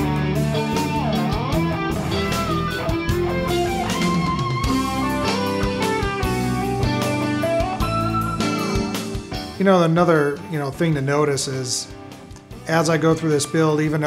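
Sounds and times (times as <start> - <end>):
guitar melody over a beat: 0.0 - 14.0.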